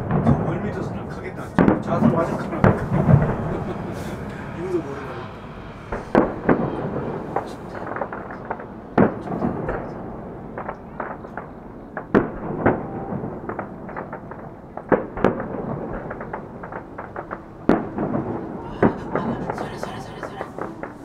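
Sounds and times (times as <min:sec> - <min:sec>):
distant firework bangs: 0:00.0 - 0:21.0
firework crackles and rumbles: 0:00.0 - 0:21.0.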